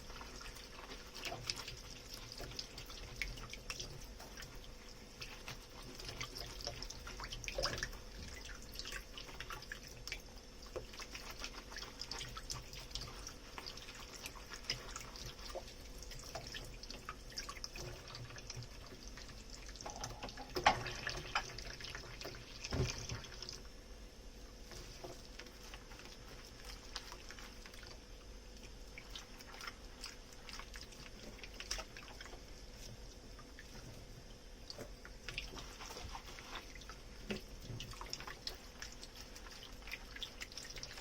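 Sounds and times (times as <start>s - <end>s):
water running and dripping: 0.0s - 41.0s.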